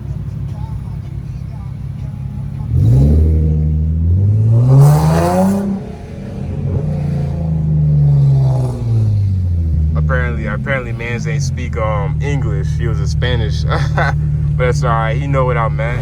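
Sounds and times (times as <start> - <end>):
car engine revving hard: 1.7 - 16.0.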